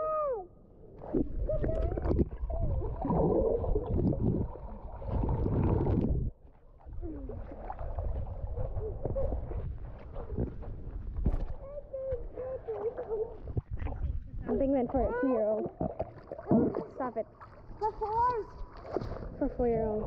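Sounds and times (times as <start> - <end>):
pool water splashing: 0.9 - 11.0, 11.8 - 20.0.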